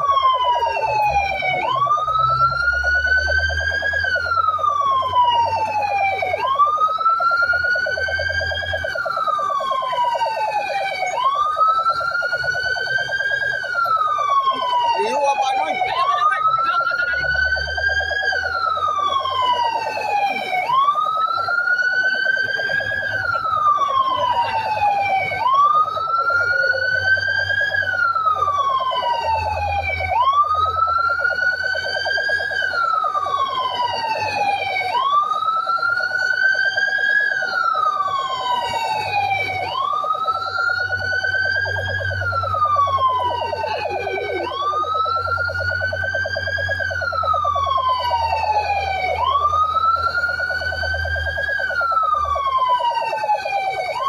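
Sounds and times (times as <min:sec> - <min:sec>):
fire truck sirens wailing: 0:00.0 - 0:54.0.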